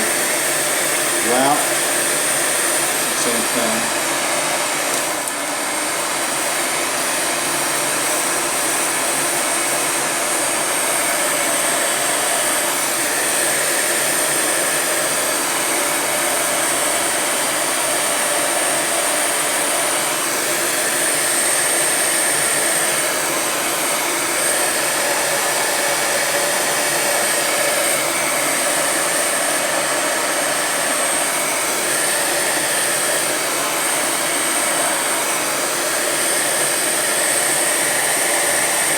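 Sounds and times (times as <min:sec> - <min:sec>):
heat gun fan blowing: 0:00.0 - 0:38.9.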